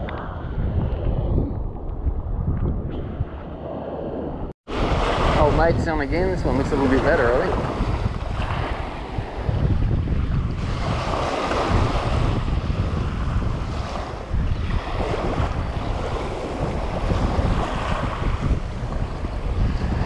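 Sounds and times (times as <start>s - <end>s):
wind buffeting the microphone: 0.0s - 20.0s
small waves washing onto shore: 3.7s - 20.0s.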